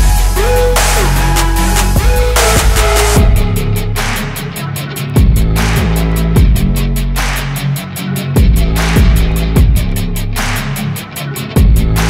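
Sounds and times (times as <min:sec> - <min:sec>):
electronic music with bass beat: 0:00.0 - 0:12.0.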